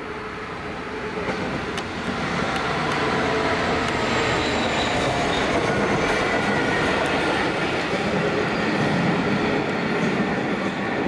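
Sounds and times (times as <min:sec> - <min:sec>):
diesel locomotive engine: 0:00.0 - 0:11.0
train wheels on rails: 0:00.0 - 0:11.0.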